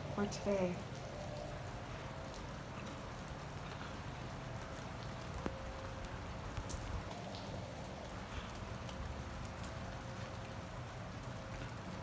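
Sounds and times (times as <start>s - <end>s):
steady rain falling: 0.0s - 12.0s
water drips ticking: 0.0s - 12.0s.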